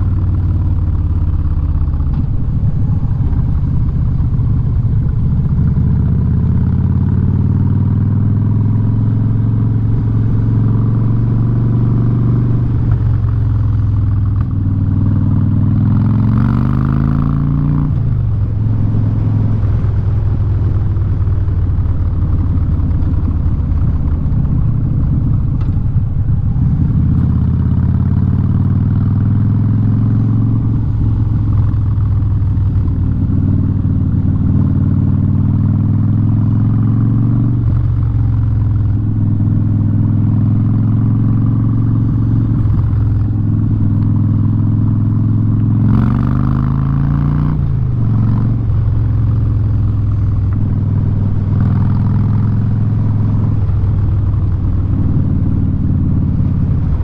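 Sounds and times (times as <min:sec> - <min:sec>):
motorcycle engine with loud exhaust: 0:00.0 - 0:57.0.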